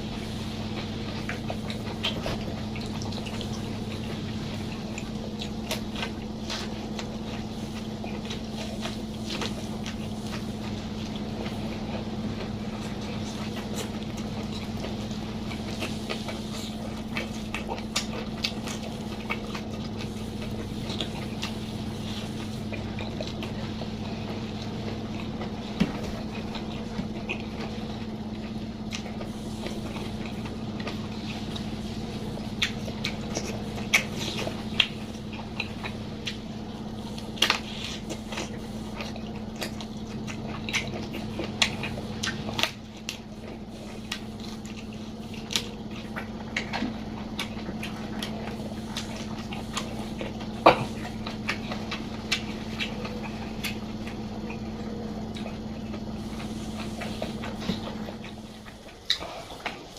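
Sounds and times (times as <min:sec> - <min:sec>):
person chewing and crunching food: 0:00.0 - 0:59.9
steady low hum: 0:00.0 - 0:59.9.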